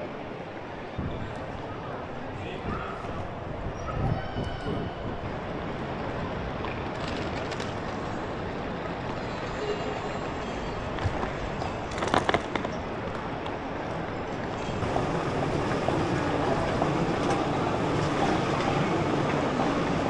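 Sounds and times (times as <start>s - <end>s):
metro train rumble and hiss: 0.0s - 20.0s
train clatter: 2.6s - 20.0s.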